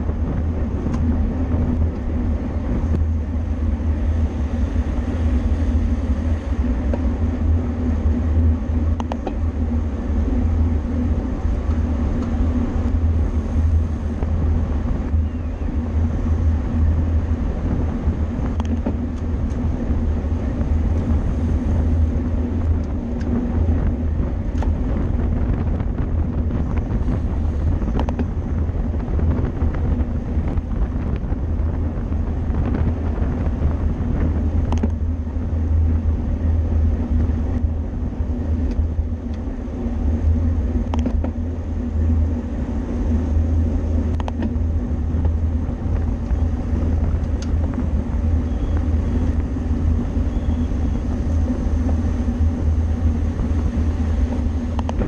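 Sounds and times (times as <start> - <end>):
bicycle road noise: 0.0 - 55.0
wind on microphone: 0.0 - 55.0.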